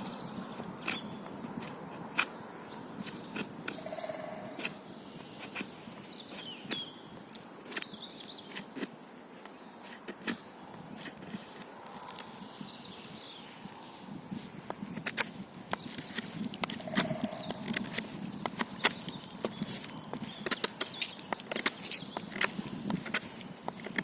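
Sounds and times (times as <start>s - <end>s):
knife shaving wood: 0.0s - 12.4s, 14.5s - 24.0s.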